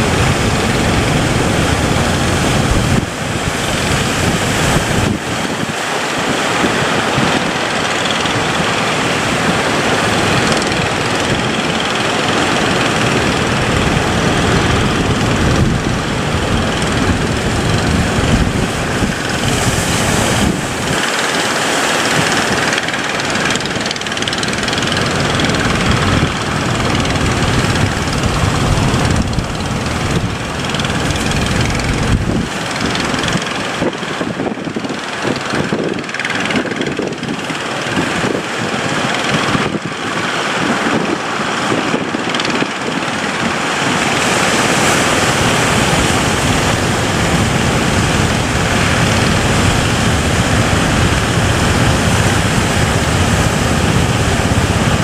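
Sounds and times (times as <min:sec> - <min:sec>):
boat engine rumble: 0:00.0 - 0:55.0
sea noise: 0:00.0 - 0:55.0
wind rushing: 0:00.0 - 0:55.0.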